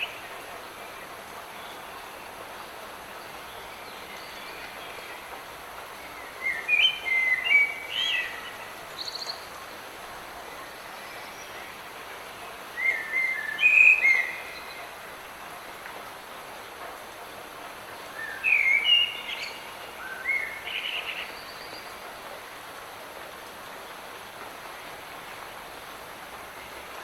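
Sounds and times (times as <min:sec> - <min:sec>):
light rain hissing: 0:00.0 - 0:27.0.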